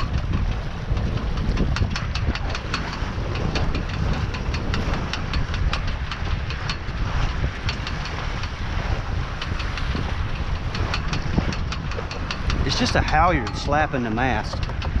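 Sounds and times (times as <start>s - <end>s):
halyard slapping against mast: 0.0s - 15.0s.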